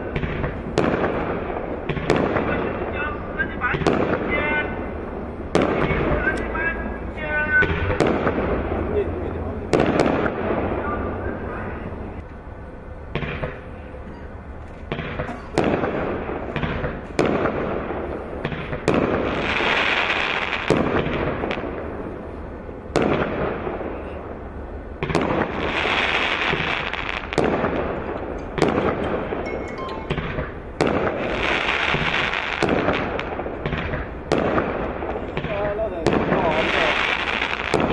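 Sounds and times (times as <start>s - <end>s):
dense firework crackle: 0.0s - 12.2s, 13.1s - 37.9s
firework reports: 0.0s - 37.9s.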